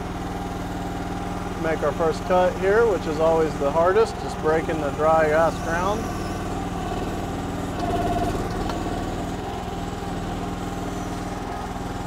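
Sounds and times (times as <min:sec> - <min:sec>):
excavator engine under load: 0:00.0 - 0:12.0.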